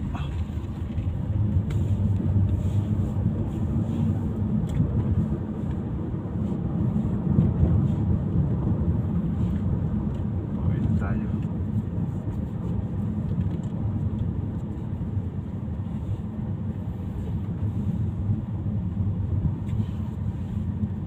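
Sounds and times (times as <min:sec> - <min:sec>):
vehicle rumbling on road: 0:00.0 - 0:21.0.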